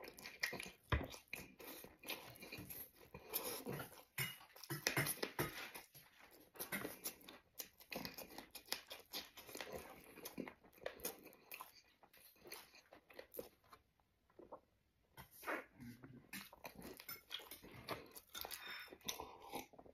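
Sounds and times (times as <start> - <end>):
man chewing and crunching: 0.0 - 19.9.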